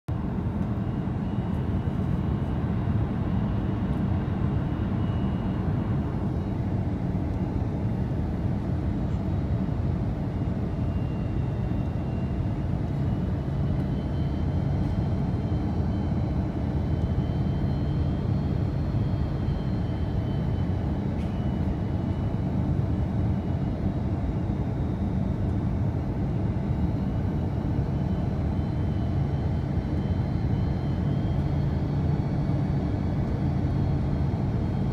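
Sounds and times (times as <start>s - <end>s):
faint high whine: 0.3s - 34.9s.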